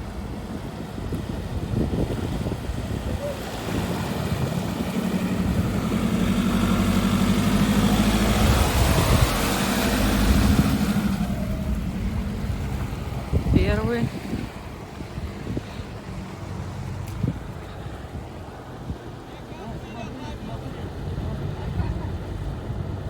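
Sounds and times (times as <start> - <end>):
off-road vehicle engine: 0.0 - 23.0.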